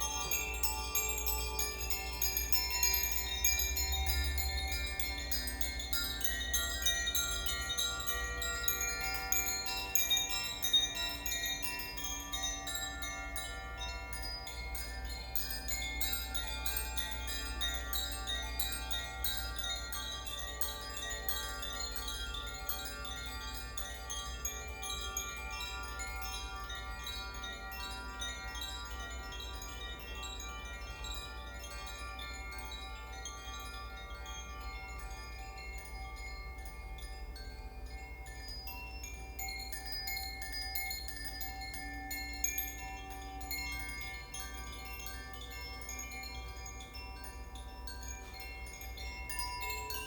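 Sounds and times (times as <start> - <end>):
wind chimes tinkling: 0.0 - 50.0.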